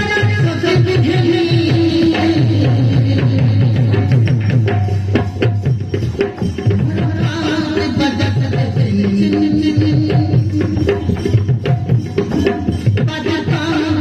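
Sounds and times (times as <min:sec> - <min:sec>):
hand drums beating fast rhythm: 0:00.0 - 0:14.0.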